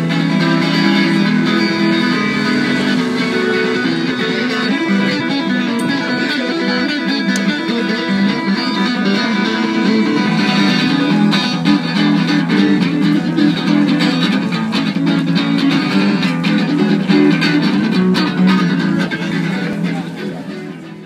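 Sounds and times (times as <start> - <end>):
plucked and strummed guitar: 0.0 - 21.0.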